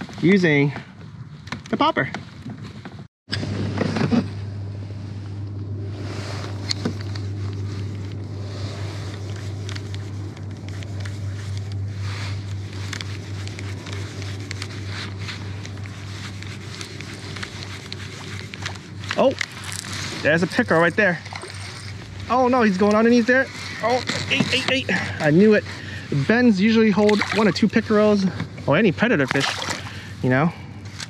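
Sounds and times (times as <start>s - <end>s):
low drone: 3.3s - 31.0s.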